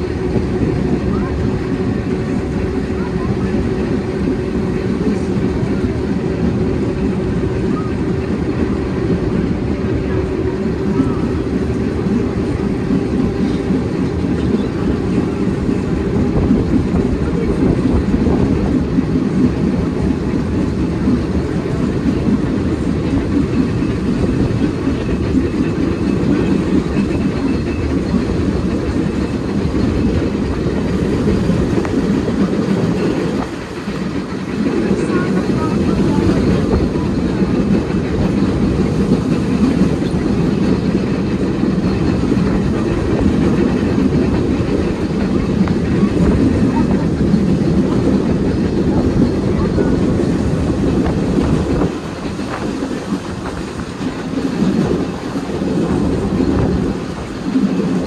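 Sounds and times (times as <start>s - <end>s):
tram wheels rumbling on rail: 0.0s - 58.0s.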